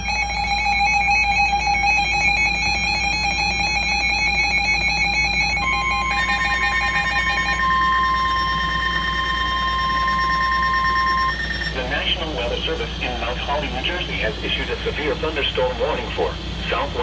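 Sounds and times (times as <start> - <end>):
higher steady tone: 0.3 - 17.0.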